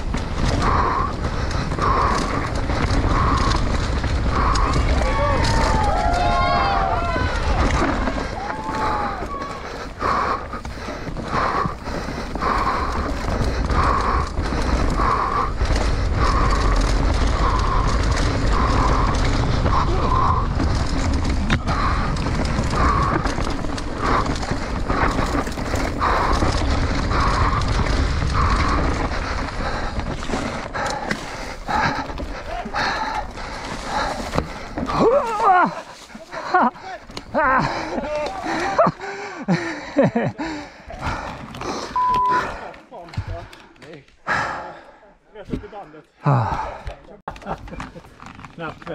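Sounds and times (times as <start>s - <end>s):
bike chain and frame rattling: 0.0s - 41.9s, 47.3s - 48.9s
rider breathing hard: 0.0s - 48.9s
tyres rumbling on dirt trail: 0.0s - 48.9s.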